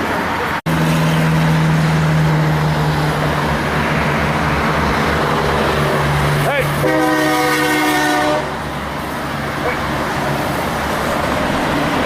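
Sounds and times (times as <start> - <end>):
heavy truck engine droning: 0.0 - 12.0
road traffic noise: 0.0 - 12.0.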